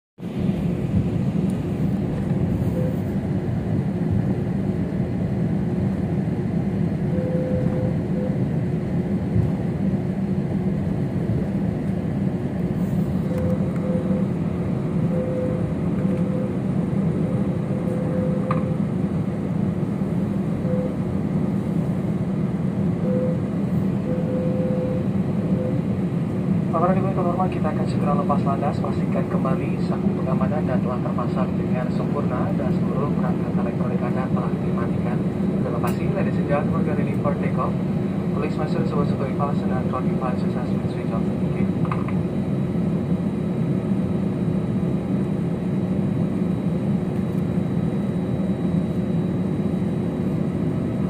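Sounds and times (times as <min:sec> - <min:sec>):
airliner cabin engine hum: 0:00.2 - 0:51.0.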